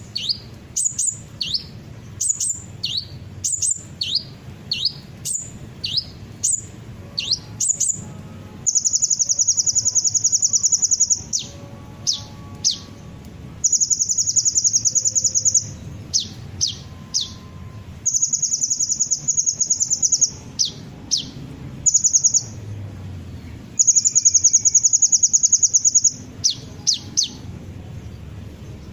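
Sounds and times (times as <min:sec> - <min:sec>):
high-pitched bird trills: 0:00.0 - 0:22.6, 0:23.7 - 0:27.5.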